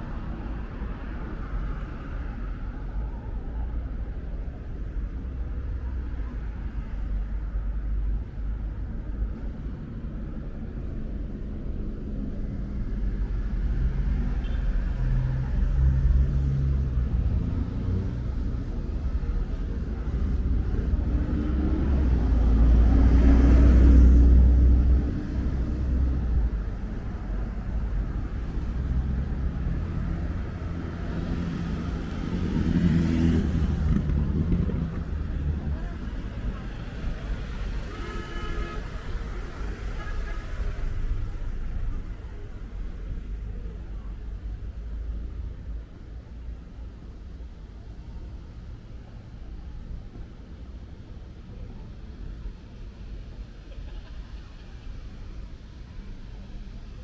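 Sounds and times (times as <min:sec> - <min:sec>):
passing traffic rumble: 0:00.0 - 0:57.0.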